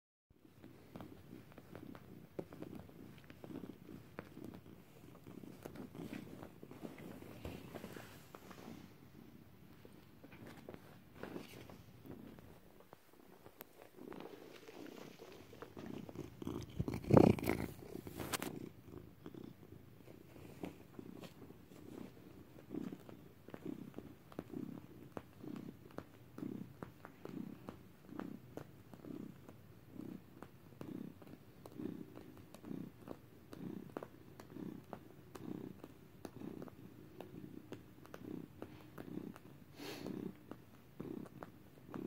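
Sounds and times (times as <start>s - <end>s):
cat purring: 0.4s - 42.0s.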